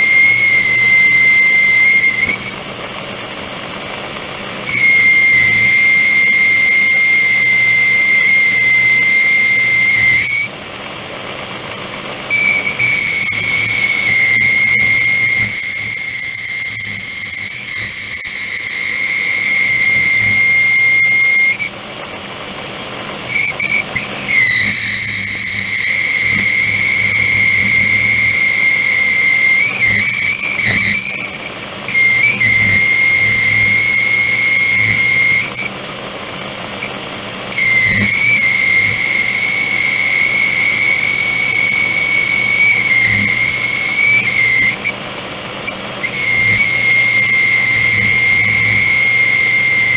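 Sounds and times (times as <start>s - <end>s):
boring tool whistling squeal: 0.0s - 2.7s, 4.0s - 10.6s, 12.3s - 21.9s, 23.2s - 35.8s, 36.7s - 49.9s
lathe humming: 0.0s - 49.9s.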